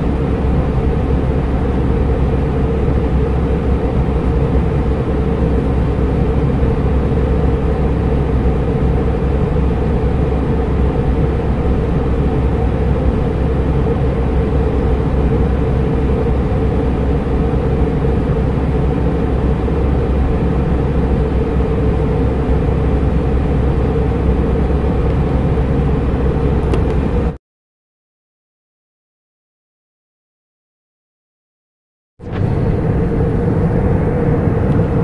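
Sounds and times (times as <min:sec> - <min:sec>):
airliner cabin noise: 0:00.0 - 0:27.4, 0:32.2 - 0:35.0
steady hum: 0:00.0 - 0:27.4, 0:32.2 - 0:35.0.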